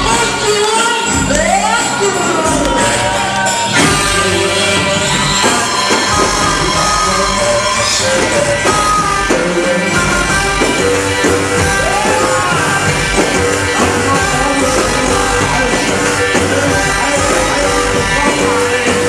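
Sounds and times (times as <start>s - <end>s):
electronic dance music: 0.0s - 19.0s
person singing: 0.0s - 19.0s.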